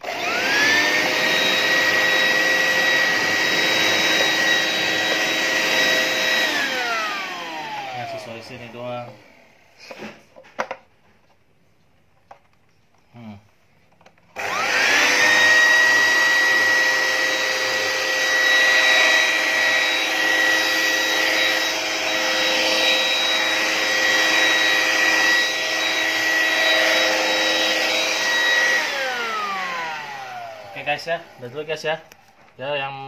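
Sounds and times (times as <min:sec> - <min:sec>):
hand vacuum cleaner whining: 0:00.0 - 0:10.6, 0:14.4 - 0:32.4.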